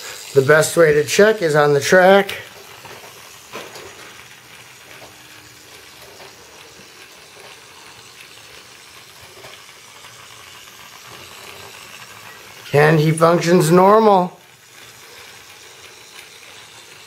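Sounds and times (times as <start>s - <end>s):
toy train motor running: 0.0s - 17.0s.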